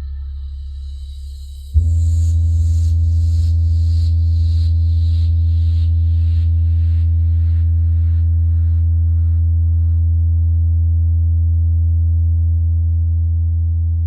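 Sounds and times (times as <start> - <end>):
deep steady bass tone: 0.0 - 14.0.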